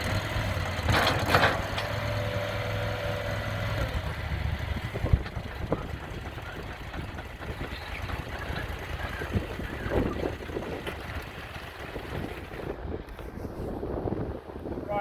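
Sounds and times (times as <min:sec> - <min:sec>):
skid steer loader engine running: 0:00.0 - 0:13.1.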